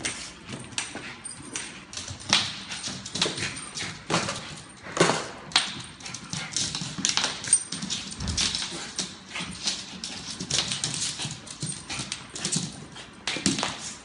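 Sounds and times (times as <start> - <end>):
dog claws clicking on hard floor: 0.0 - 14.0.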